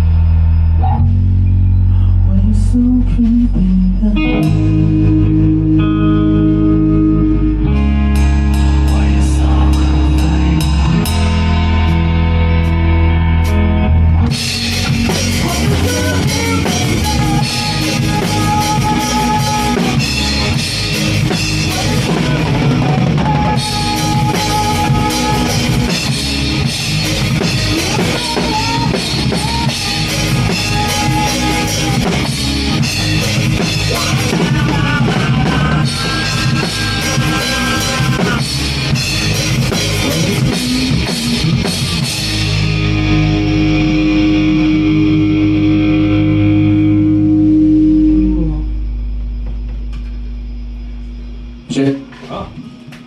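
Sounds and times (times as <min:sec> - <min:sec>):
live rock band playing: 0:00.0 - 0:49.8
electric guitar lines: 0:00.0 - 0:53.0.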